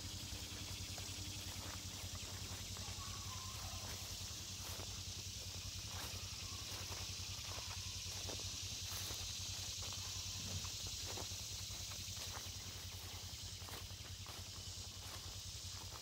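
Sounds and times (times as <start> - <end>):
footsteps through tall grass: 0.0 - 16.0
insects droning: 0.0 - 16.0.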